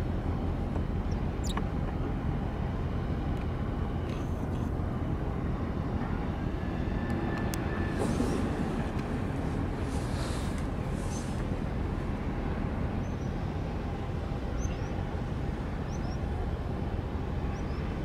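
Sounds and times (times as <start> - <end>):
ship low rumble: 0.0 - 18.0.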